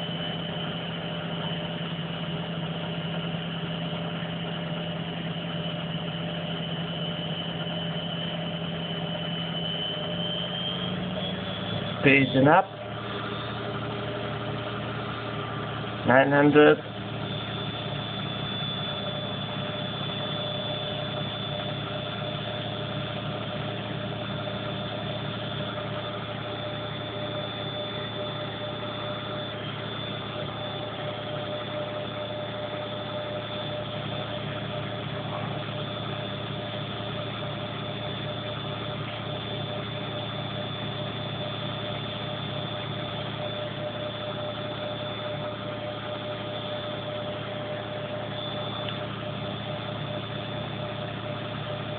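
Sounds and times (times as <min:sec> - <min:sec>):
motor whine over low hum: 0:00.0 - 0:51.9
washing machine spinning: 0:00.0 - 0:51.9.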